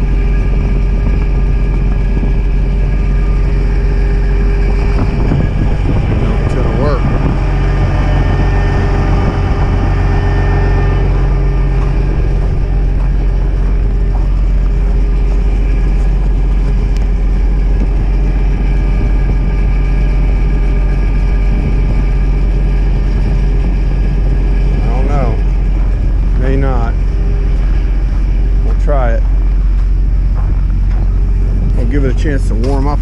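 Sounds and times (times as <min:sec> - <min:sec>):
diesel truck engine running: 0:00.0 - 0:33.0
wind noise: 0:00.0 - 0:33.0.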